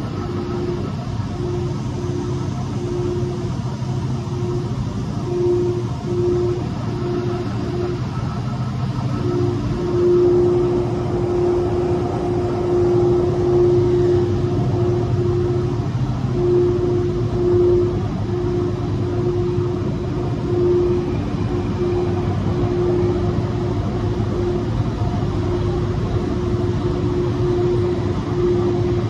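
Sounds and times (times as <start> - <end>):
machine drone with low hum: 0.0 - 29.0
mid-pitched tone: 0.0 - 29.0.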